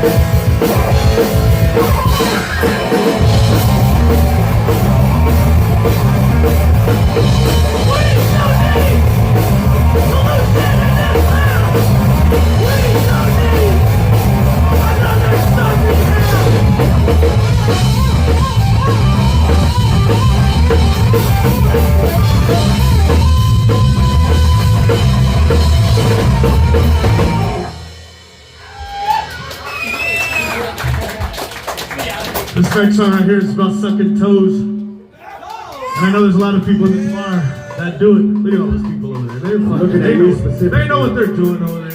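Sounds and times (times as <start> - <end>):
live rock band playing: 0.0 - 31.8, 36.6 - 41.9.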